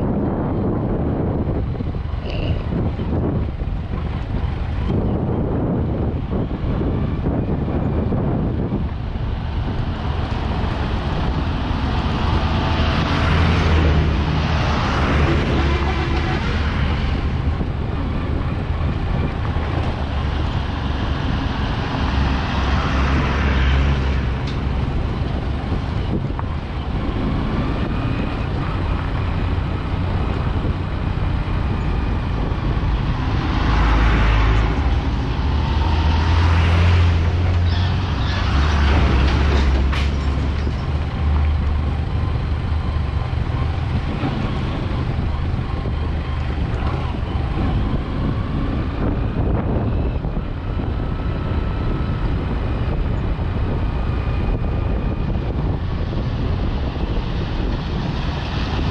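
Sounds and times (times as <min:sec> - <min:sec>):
passing trucks rushing: 0:00.0 - 0:58.9
vehicle engine and tyres on dirt road: 0:00.0 - 0:58.9.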